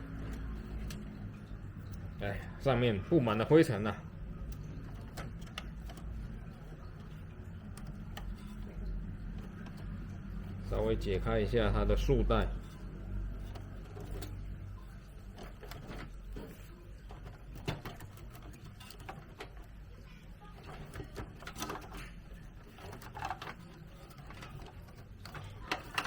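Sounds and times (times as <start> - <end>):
plastic clicks and rustles: 0.0 - 26.0.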